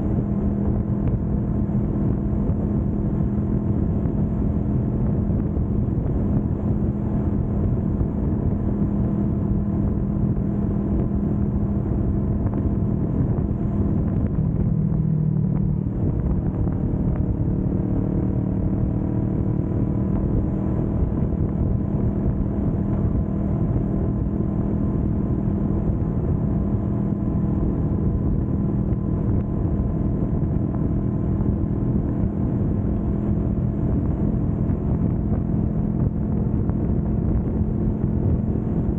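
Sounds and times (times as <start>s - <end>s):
motorcycle engine cruising: 0.0s - 38.9s
road noise: 0.0s - 38.9s.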